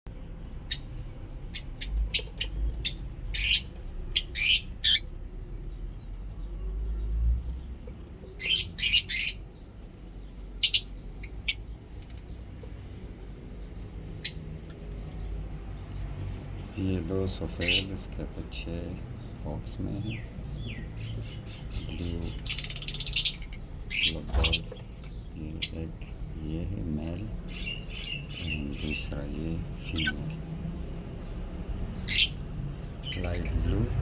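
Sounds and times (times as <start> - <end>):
lovebirds chirping and squawking: 0.2 - 34.0.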